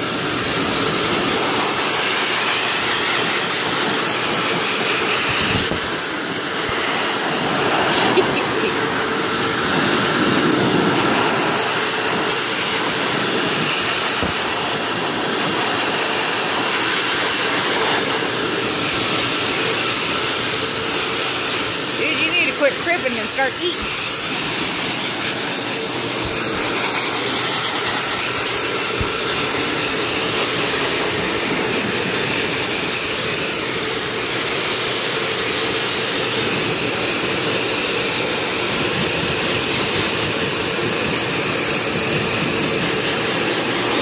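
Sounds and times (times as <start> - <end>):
blower rushing air: 0.0 - 44.0.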